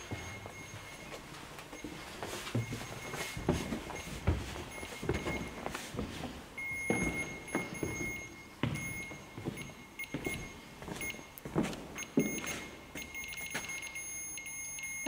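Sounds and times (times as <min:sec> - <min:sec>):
footsteps on wooden boards: 0:00.0 - 0:13.7.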